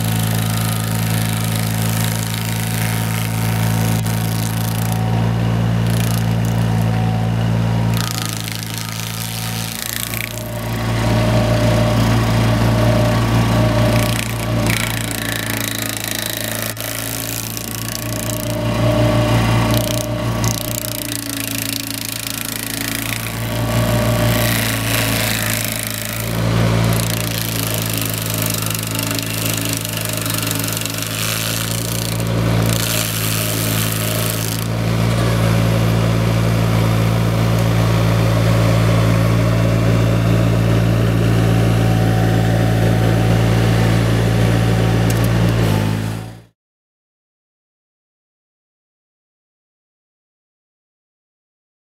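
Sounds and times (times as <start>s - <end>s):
stump grinder chewing wood: 0.0s - 46.4s
machine engine drone: 0.0s - 46.5s.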